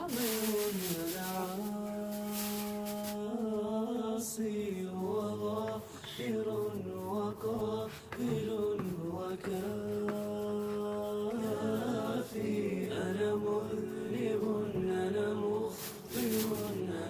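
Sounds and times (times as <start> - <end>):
a cappella chanted melody: 0.0 - 17.0.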